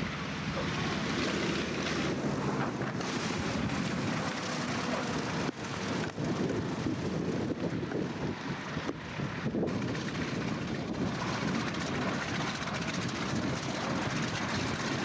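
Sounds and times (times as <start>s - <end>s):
aircraft engine running: 0.0s - 15.0s
wind buffeting microphone: 0.0s - 15.0s.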